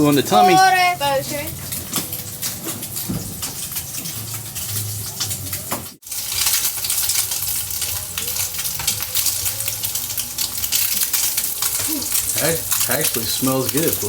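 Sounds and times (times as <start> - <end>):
sausages sizzling in pan: 0.0 - 14.0.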